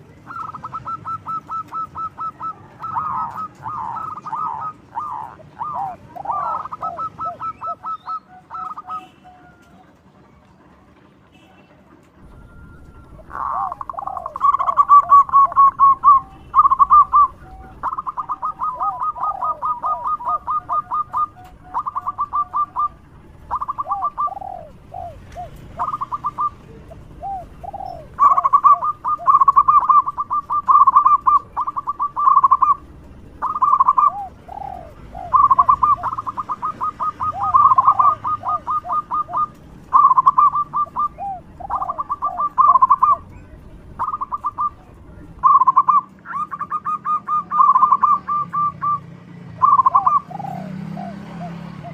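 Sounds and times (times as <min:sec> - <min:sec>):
dove cooing: 0:00.0 - 0:10.0, 0:12.2 - 0:51.9.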